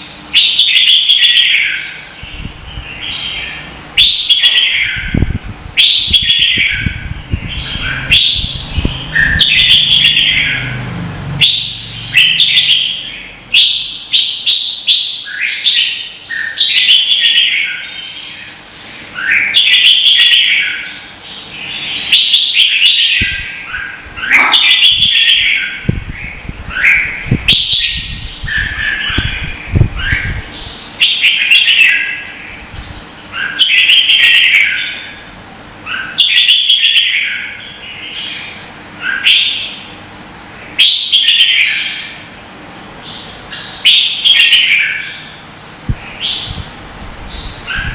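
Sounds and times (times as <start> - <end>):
bulbuls singing warbled phrases: 0.0 - 47.9.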